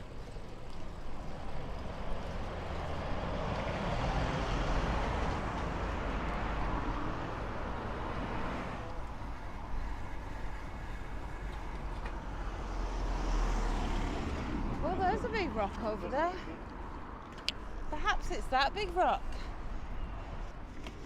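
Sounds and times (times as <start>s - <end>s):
vehicle passing: 0.3s - 20.7s.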